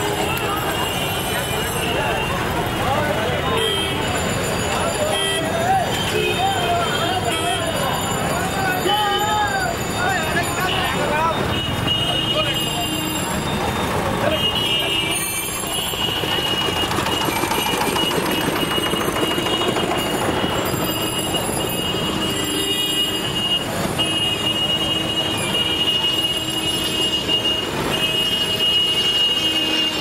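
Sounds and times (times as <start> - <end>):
crowd noise: 0.0 - 30.0
traffic: 0.0 - 30.0.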